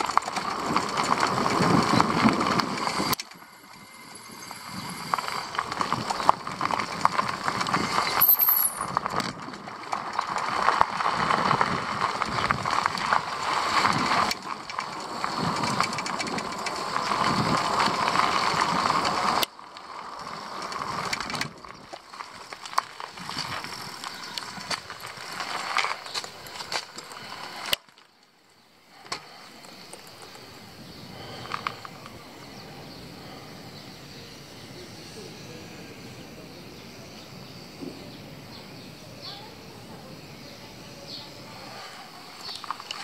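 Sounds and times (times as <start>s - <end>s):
bicycle clicks and rattles: 0.0s - 34.7s, 41.1s - 43.0s
bicycle tyres rushing on road: 0.0s - 43.0s.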